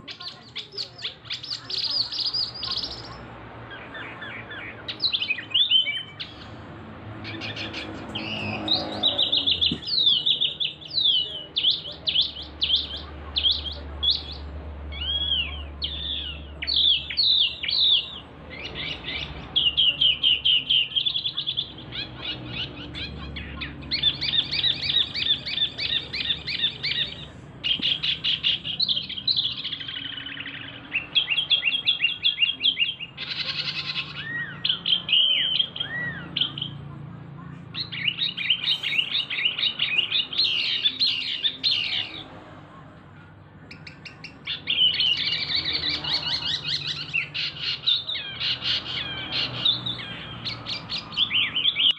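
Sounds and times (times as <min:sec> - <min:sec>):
songbird trilling: 0:00.0 - 0:06.6, 0:07.2 - 0:36.8, 0:37.7 - 0:42.3, 0:43.7 - 0:51.9.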